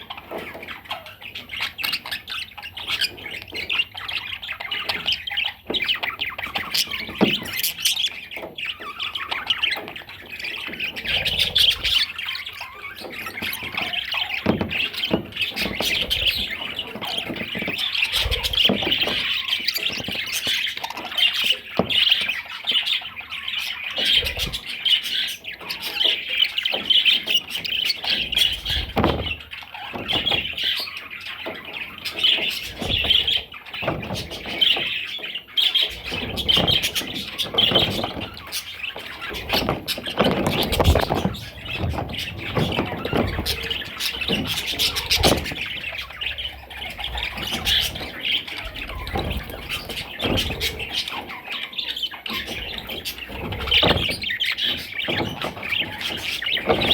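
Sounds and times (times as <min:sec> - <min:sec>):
budgerigar chattering: 0:00.0 - 0:56.9.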